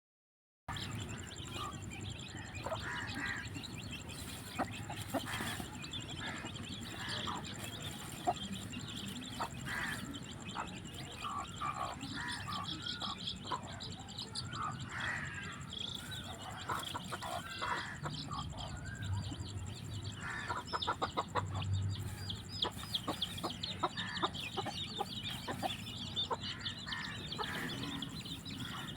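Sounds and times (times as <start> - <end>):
chicks peeping: 0.7 - 28.9.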